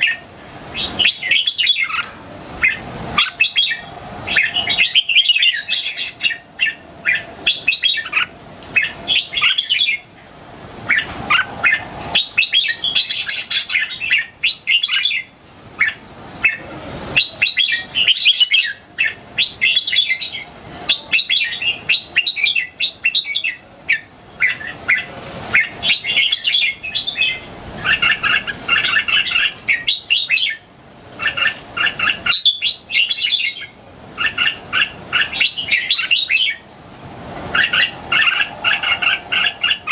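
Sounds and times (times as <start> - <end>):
bulbul singing warbled phrases: 0.0 - 10.2, 10.8 - 36.7, 37.5 - 39.9.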